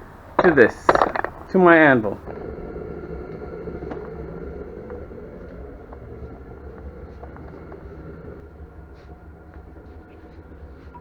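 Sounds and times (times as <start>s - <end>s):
faint hum: 0.0s - 11.0s
low rumble: 0.0s - 11.0s.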